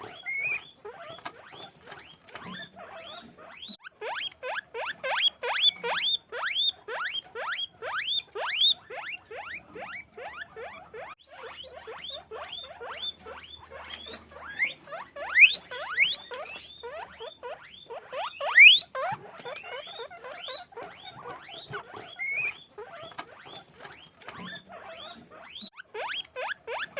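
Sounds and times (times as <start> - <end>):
guinea pigs squeaking: 0.0 - 26.9.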